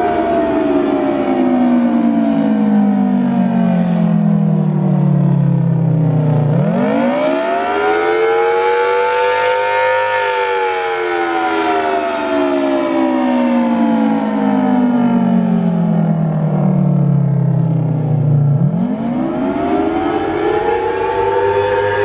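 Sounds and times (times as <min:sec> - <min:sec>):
wavering warning siren: 0:00.0 - 0:22.0.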